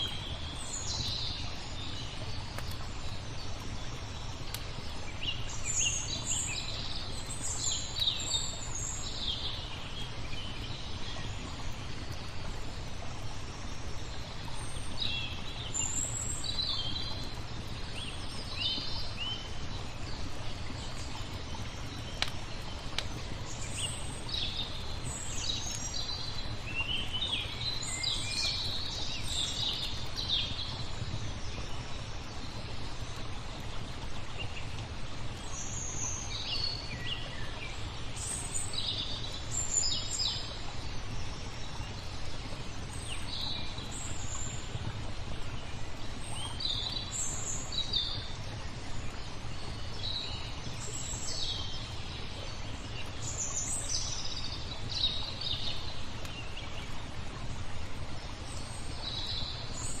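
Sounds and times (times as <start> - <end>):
low rushing nature ambience: 0.0 - 60.0
songbirds chirping: 0.0 - 60.0.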